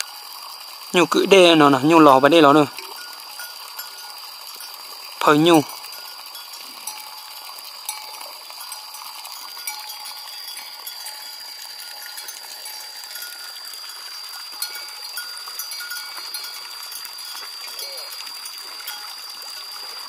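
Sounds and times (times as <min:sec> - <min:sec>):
cattle bells clanking: 0:00.0 - 0:20.0.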